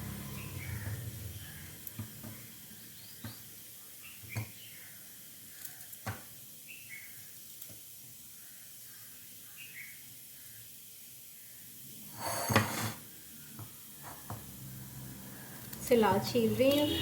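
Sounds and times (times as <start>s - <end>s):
faint hiss: 1.2s - 16.4s.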